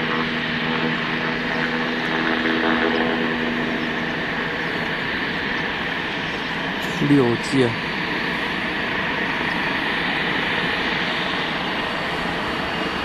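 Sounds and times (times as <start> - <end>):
mechanical drone with hiss: 0.0 - 13.0.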